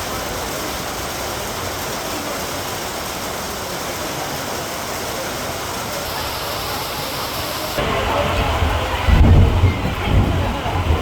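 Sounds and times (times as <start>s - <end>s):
rain falling steadily: 0.0s - 11.0s.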